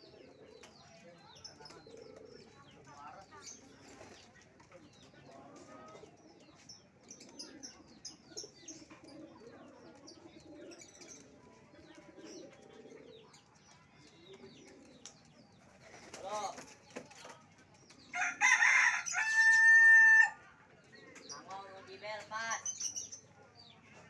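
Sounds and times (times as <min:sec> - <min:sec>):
pigeons cooing: 0:00.0 - 0:21.6
small birds chirping: 0:00.0 - 0:24.0.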